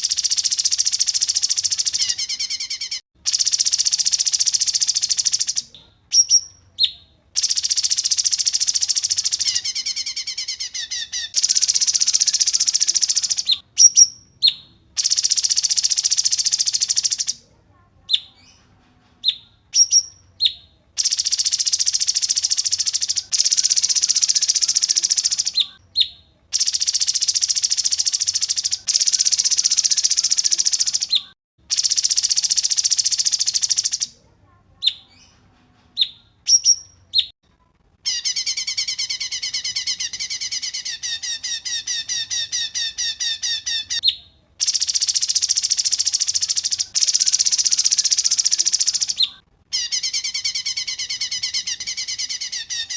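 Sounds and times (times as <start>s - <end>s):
songbird buzzy trills: 0.0s - 17.4s, 19.3s - 34.2s, 38.0s - 52.9s.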